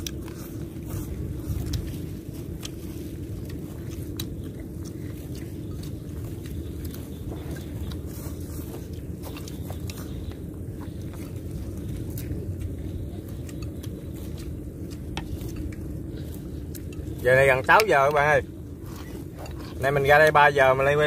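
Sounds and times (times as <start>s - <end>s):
people chewing crunchy bones: 0.0s - 21.0s
steady low rumble: 0.0s - 21.0s.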